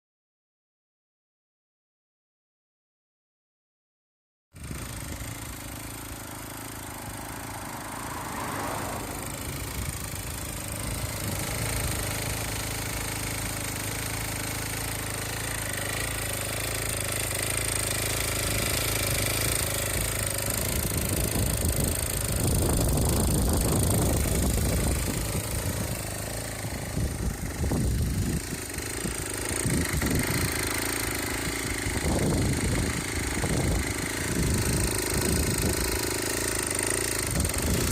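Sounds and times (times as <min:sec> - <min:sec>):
scooter engine idling and revving: 0:04.6 - 0:37.9.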